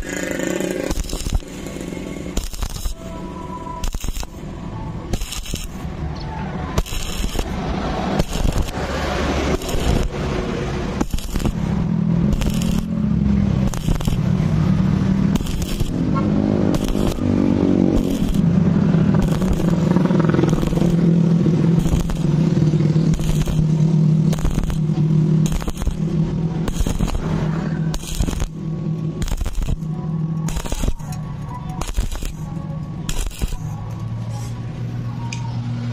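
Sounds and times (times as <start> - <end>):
welding arc crackling: 0.0 - 35.0
low hum: 0.0 - 35.9.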